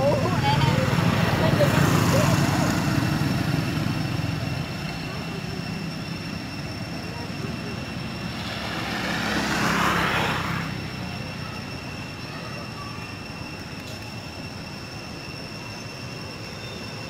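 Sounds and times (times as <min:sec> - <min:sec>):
outdoor background rush: 0:00.0 - 0:17.0
swell of noise: 0:00.0 - 0:17.0.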